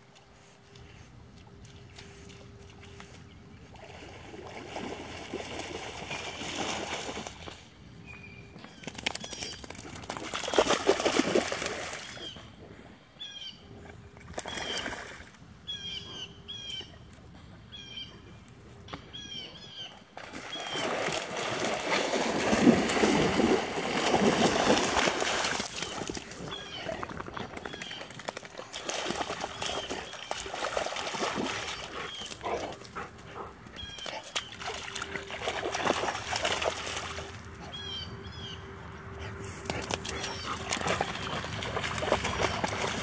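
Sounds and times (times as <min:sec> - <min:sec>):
dogs splashing through water: 0:01.6 - 0:12.6, 0:14.0 - 0:15.4, 0:19.0 - 0:43.0.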